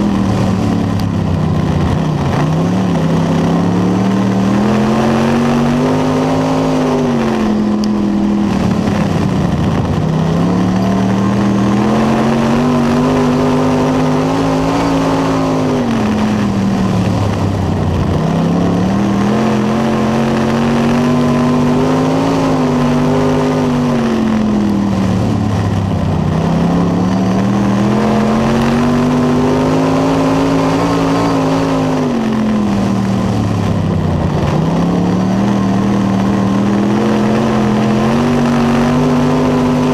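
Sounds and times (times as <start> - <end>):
racing engine revving: 0.0 - 39.9.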